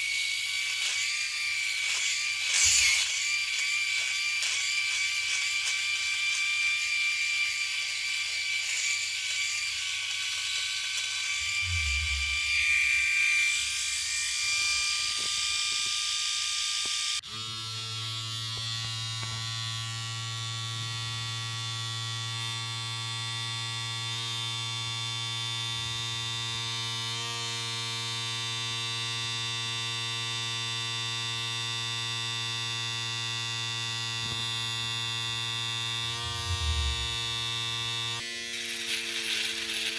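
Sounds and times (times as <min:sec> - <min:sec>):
electric shaver high whine: 0:00.0 - 0:39.9
shaver deeper buzz: 0:00.0 - 0:39.9.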